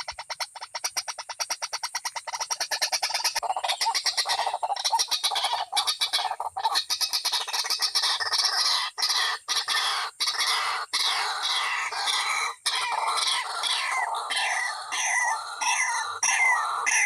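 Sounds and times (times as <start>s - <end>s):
waterhen harsh squawking calls: 0.0s - 17.0s.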